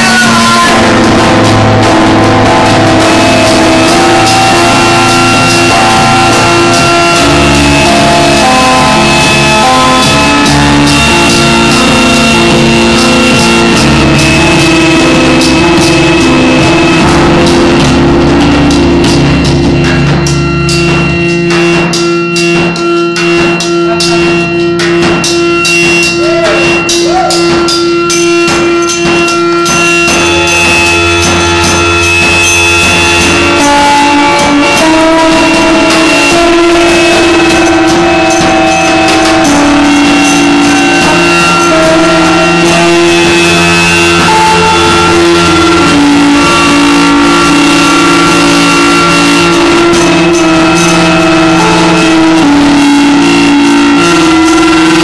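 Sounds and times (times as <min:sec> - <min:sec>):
electric guitar: 0:00.0 - 0:55.0
layered droning tones: 0:00.0 - 0:55.0
percussive hits: 0:00.0 - 0:55.0.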